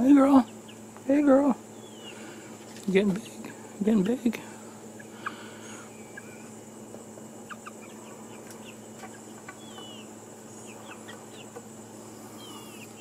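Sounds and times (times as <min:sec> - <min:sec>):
chickens chirping and clucking: 0:00.0 - 0:13.0
chicken wavering calls: 0:01.6 - 0:13.0.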